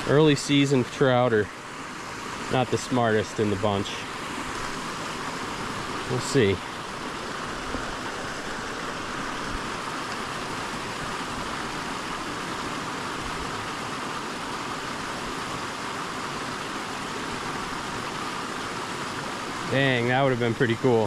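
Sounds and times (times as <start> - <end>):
brook running over rocks: 0.0 - 21.0.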